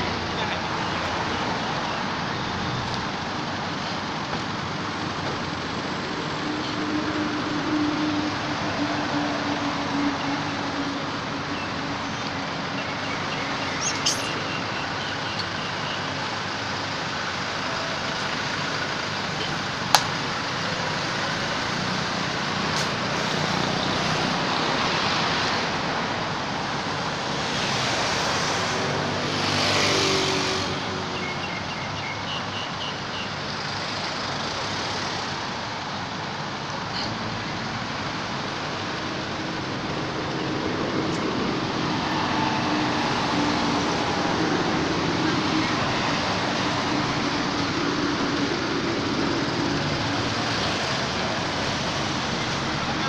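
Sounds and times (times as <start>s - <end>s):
road traffic noise: 0.0s - 53.0s.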